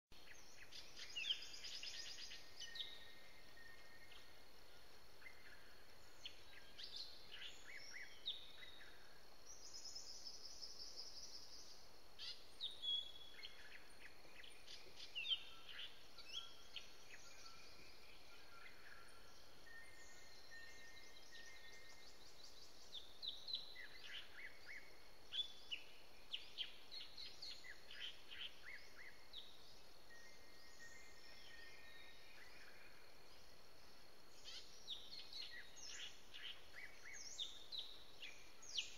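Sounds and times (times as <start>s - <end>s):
birds chirping: 0.1s - 38.9s
faint background hiss: 0.1s - 38.9s.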